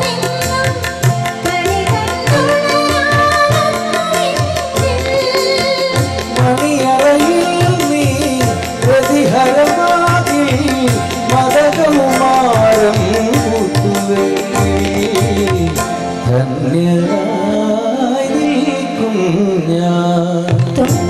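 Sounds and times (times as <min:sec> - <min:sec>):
live band with percussion: 0:00.0 - 0:21.0
man singing into microphone: 0:02.1 - 0:21.0.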